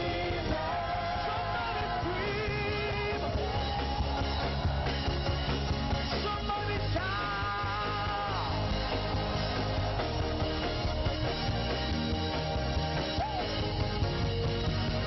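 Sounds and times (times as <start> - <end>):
band playing worship music: 0.0 - 15.0.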